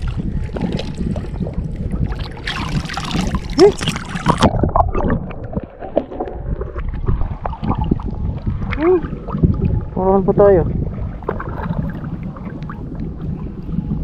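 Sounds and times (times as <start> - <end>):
seawater sloshing and splashing: 0.0 - 10.0, 10.9 - 14.0
underwater gurgling: 0.0 - 14.0.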